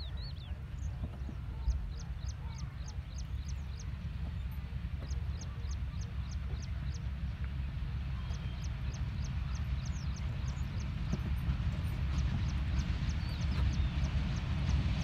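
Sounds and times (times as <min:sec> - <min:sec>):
bird chirping: 0:00.0 - 0:07.1, 0:08.2 - 0:14.8.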